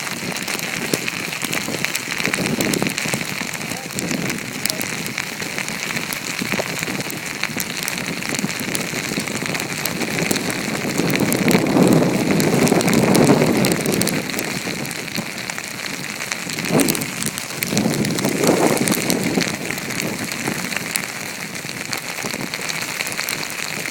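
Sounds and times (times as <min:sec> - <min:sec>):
snow grains ticking on microphone: 0:00.0 - 0:23.9
snowstorm wind: 0:00.0 - 0:23.9.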